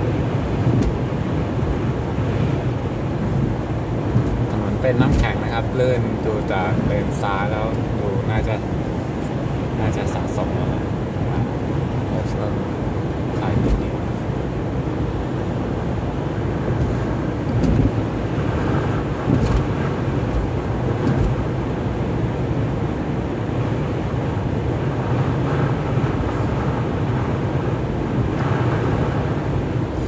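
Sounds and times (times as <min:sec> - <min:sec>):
vehicle engine and tyres droning: 0:00.0 - 0:30.0.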